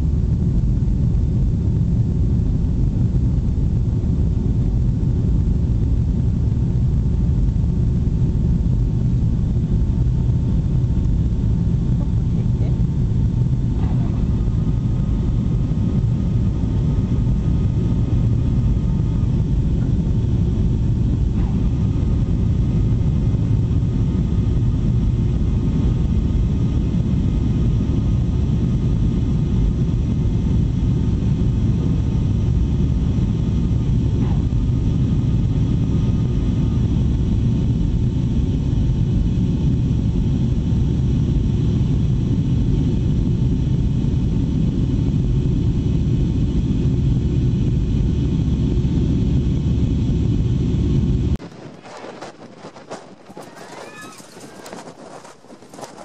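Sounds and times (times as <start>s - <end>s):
jet engines and airflow rumble: 0.0s - 56.0s.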